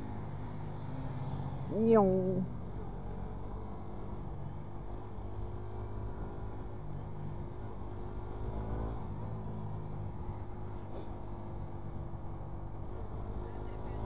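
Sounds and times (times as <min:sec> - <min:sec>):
road and wind rumble: 0:00.0 - 0:14.0.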